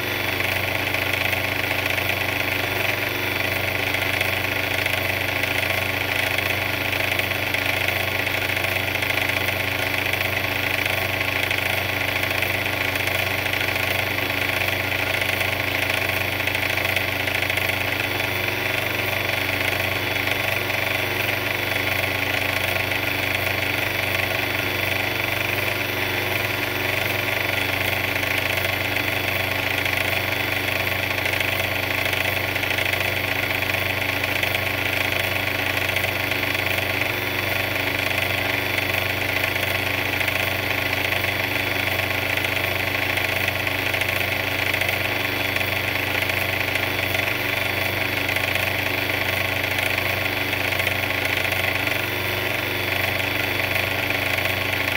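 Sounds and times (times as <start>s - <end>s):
mixer motor drone: 0.0s - 54.9s.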